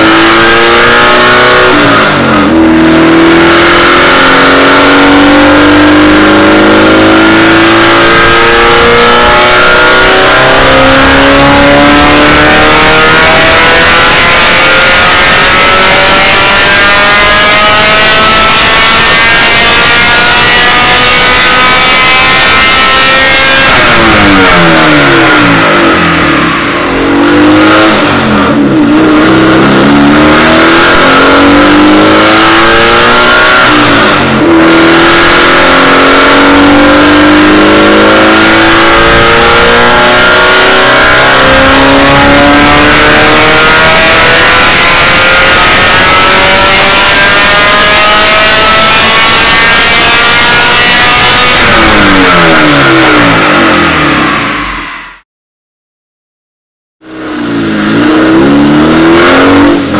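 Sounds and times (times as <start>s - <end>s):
race car engine at full throttle: 0.0s - 55.2s, 57.0s - 59.9s.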